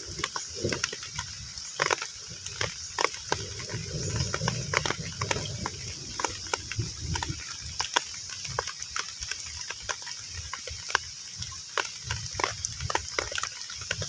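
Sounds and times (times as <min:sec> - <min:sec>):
heavy rain on pond: 0:00.0 - 0:14.0.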